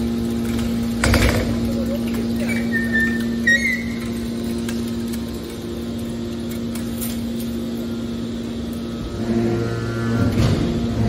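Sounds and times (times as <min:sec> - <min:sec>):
hydraulic power unit humming: 0:00.0 - 0:11.0.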